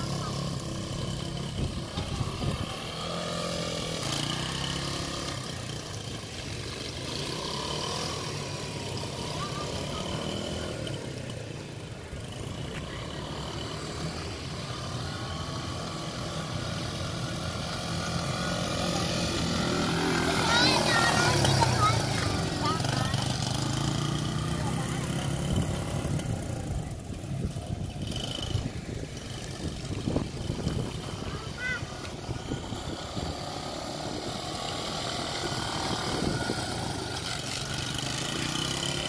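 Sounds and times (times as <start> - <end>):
quad bike engine running: 0.0 - 39.0.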